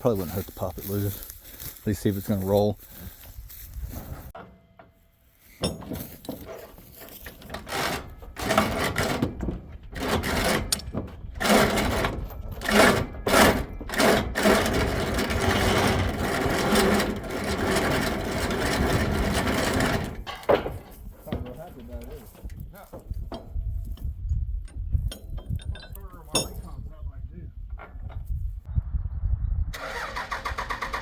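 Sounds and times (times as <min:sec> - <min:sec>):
truck scraping and creaking: 0:00.0 - 0:26.9.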